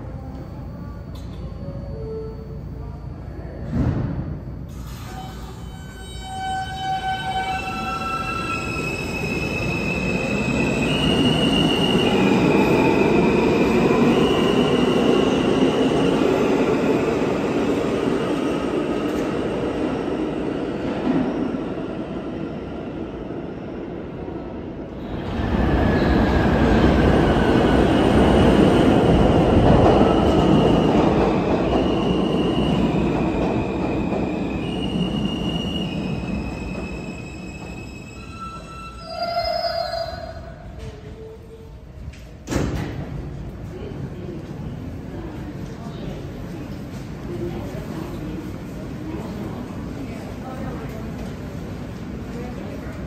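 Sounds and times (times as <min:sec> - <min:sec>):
subway train wheels rumbling: 0:00.0 - 0:53.0.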